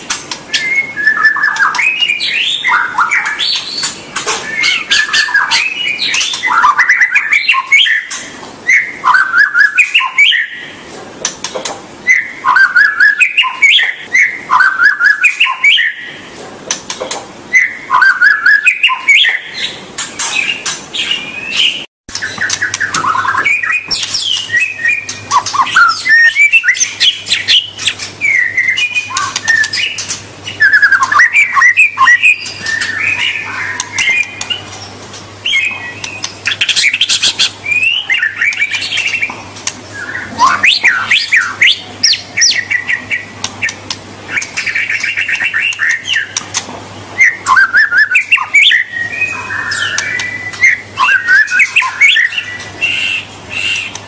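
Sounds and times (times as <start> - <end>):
bird singing trills and whistles: 0.0 - 10.8, 12.0 - 16.3, 17.5 - 54.0.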